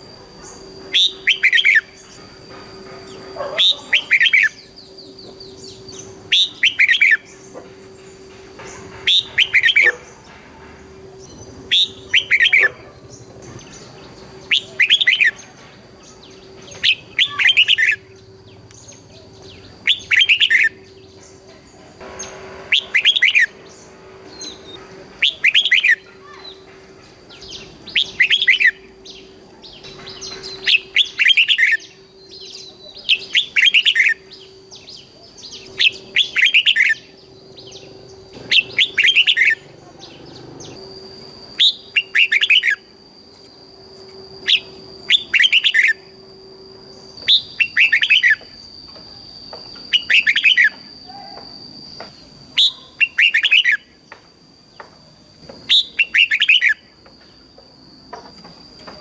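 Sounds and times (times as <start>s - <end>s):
bird singing: 0.0s - 59.0s
faint steady hum: 0.0s - 59.0s.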